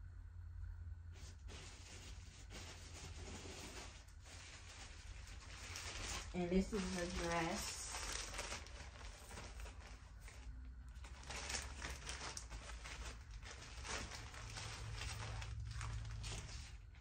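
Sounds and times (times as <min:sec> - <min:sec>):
steady low hum: 0:00.0 - 0:17.0
plastic bag crinkling: 0:01.2 - 0:17.0.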